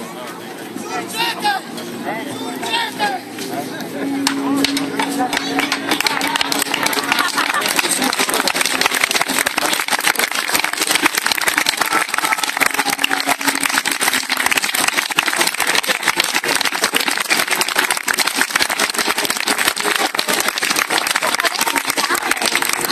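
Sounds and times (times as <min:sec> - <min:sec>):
faint voices: 0:00.0 - 0:22.9
crowd applauding: 0:04.2 - 0:22.9.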